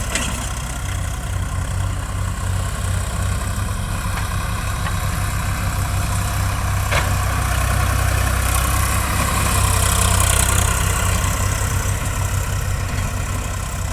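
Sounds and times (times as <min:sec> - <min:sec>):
diesel engine humming: 0:00.0 - 0:13.9.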